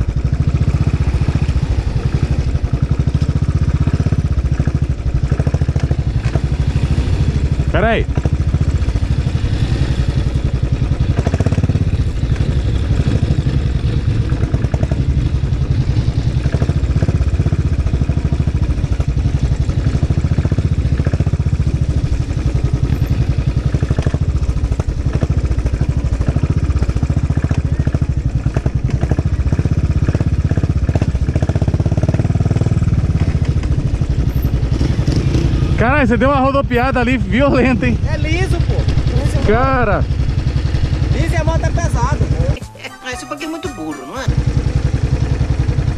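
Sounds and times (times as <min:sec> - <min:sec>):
motorcycle engine running: 0:00.0 - 0:42.7, 0:44.2 - 0:45.9.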